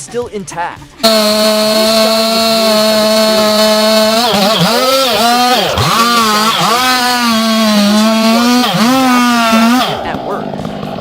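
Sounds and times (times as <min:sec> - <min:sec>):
chainsaw cutting wood: 0:01.0 - 0:11.0.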